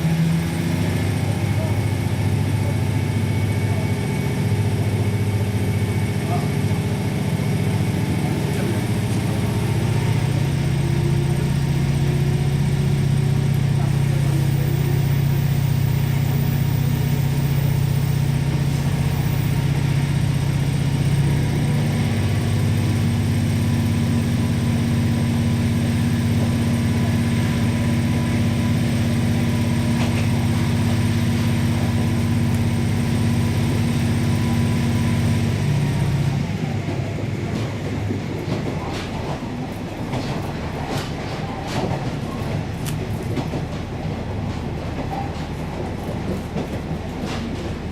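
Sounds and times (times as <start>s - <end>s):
railcar diesel engine running: 0.0s - 47.9s.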